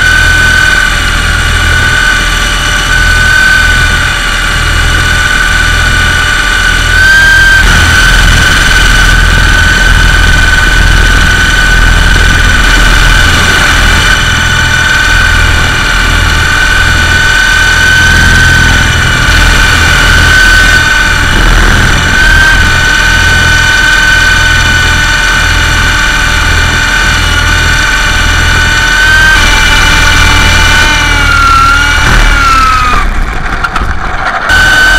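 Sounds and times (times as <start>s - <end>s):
toy helicopter whining and rumbling: 0.0s - 34.9s.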